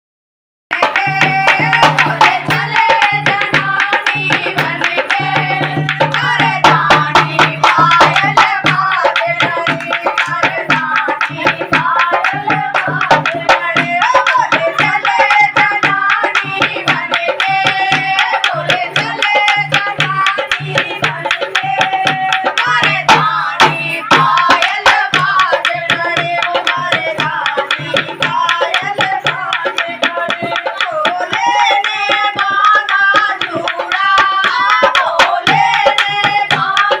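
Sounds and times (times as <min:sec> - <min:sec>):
hand drums playing fast rhythm: 0:00.7 - 0:37.0.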